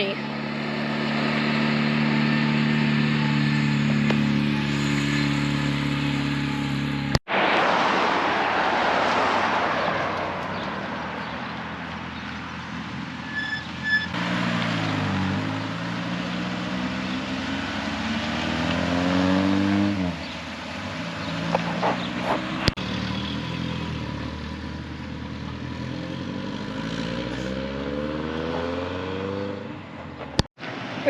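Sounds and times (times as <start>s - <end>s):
car engines accelerating: 0.0s - 31.0s.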